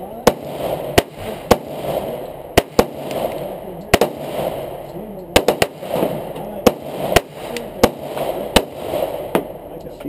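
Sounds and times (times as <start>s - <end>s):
handgun shots: 0.3s - 9.6s.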